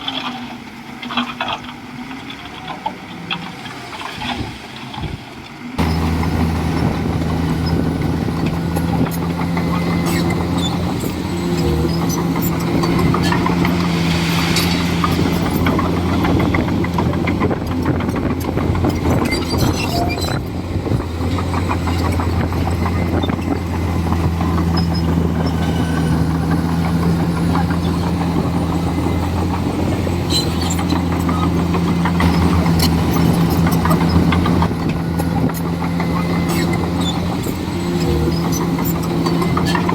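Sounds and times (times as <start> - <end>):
bulldozer diesel engine running: 5.6 - 39.9.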